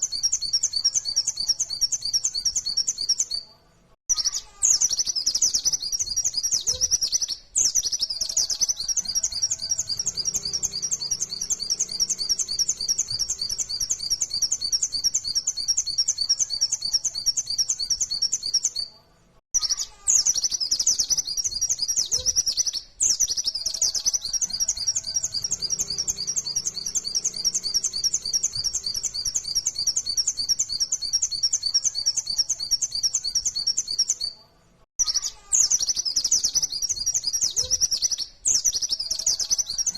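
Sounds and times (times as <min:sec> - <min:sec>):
bird singing high chattering notes: 0:00.0 - 0:03.5, 0:04.1 - 0:18.9, 0:19.6 - 0:34.4, 0:35.0 - 0:39.9.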